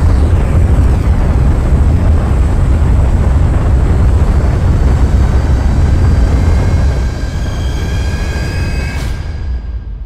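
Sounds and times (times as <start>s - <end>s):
turboprop engines roaring: 0.0s - 10.0s
wind rushing: 0.0s - 10.0s.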